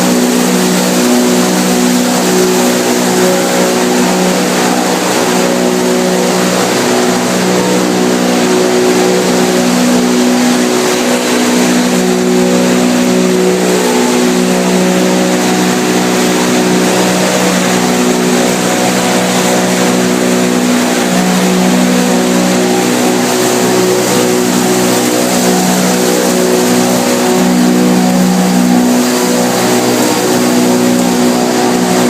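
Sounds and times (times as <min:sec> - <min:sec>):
machinery noise: 0:00.0 - 0:32.0
motor hum: 0:00.0 - 0:32.0.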